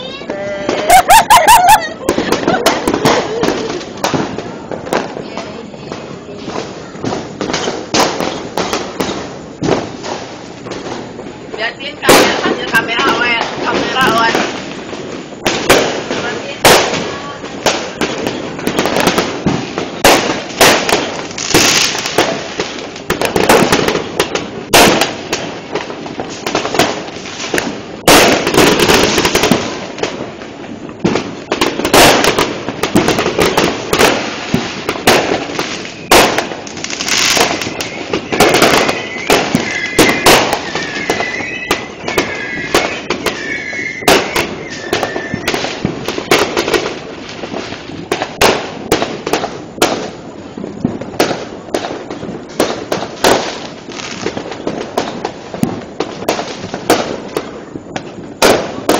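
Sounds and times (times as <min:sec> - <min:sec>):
firework whistles: 0:00.0 - 0:58.9
fireworks bangs and crackle: 0:00.0 - 0:58.9.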